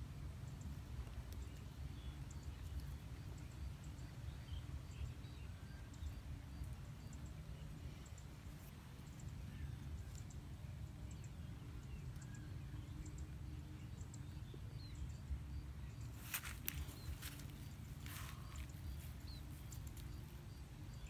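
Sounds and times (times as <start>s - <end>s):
steady low rumble: 0.0s - 21.0s
faint bird chirps: 0.5s - 21.0s.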